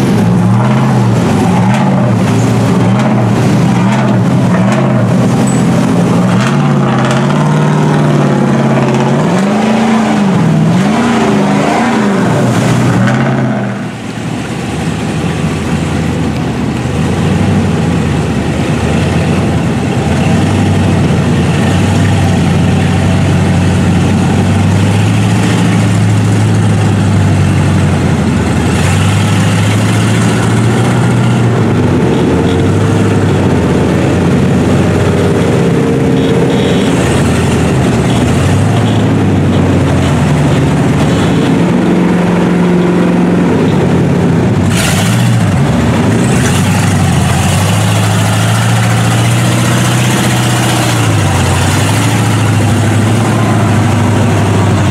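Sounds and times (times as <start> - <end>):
truck engine revving: 0.0 - 54.9
truck wading through water: 0.0 - 54.9.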